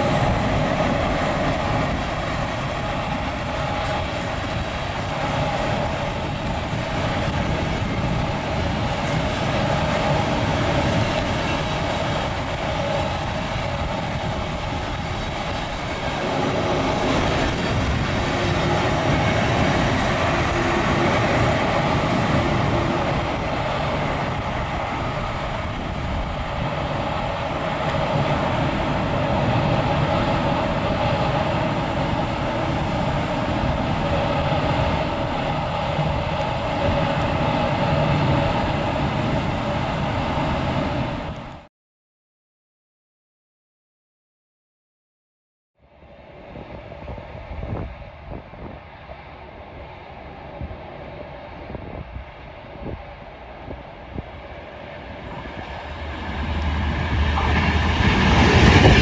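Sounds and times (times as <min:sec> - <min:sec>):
train wheels rumbling on track: 0:00.0 - 0:41.7, 0:46.4 - 0:59.0.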